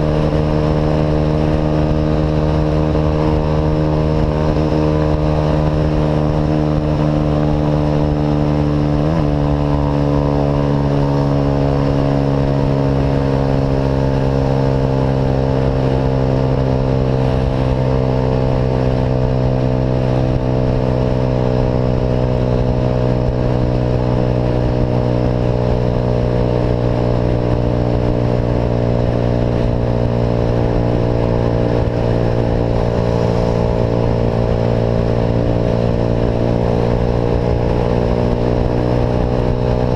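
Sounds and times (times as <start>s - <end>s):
engine cruising through exhaust: 0.0s - 39.9s.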